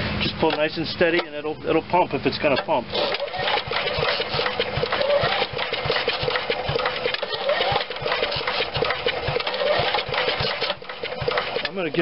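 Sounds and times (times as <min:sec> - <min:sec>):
recoil pull-starter cranking engine: 0:00.0 - 0:12.0.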